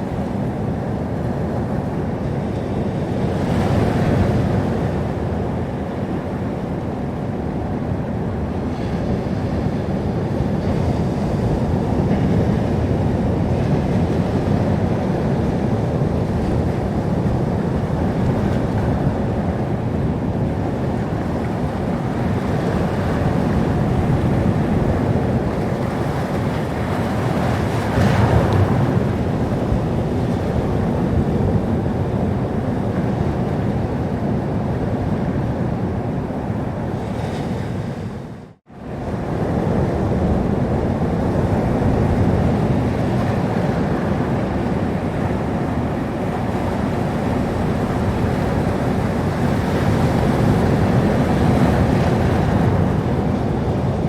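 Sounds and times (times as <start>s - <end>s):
waves breaking: 0.0s - 54.0s
waves washing: 0.0s - 54.0s.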